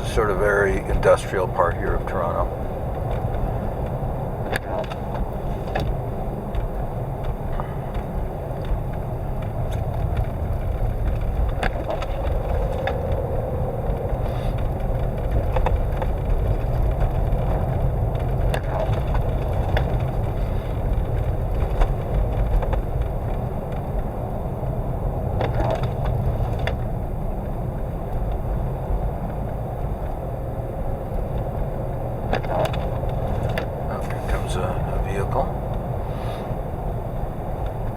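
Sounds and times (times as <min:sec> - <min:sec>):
road and wind rumble: 0:00.0 - 0:37.9.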